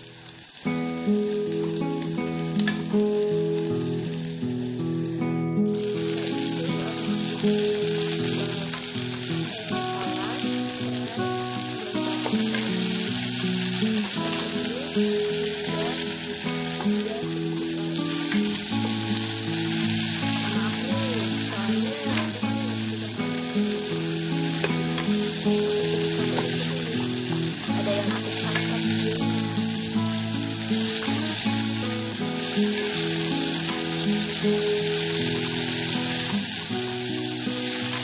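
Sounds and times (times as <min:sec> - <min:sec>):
shallots sizzling in hot oil: 0:00.0 - 0:38.0.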